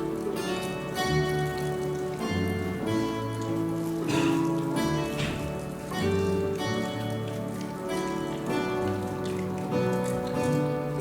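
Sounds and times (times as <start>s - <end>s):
instrumental church music: 0.0s - 11.0s.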